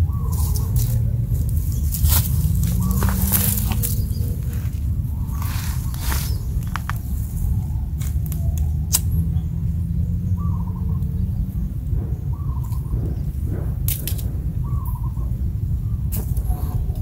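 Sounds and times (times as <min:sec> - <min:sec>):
bird chirping: 0:00.0 - 0:13.8, 0:14.6 - 0:17.0
wind rumbling on microphone: 0:00.0 - 0:17.0.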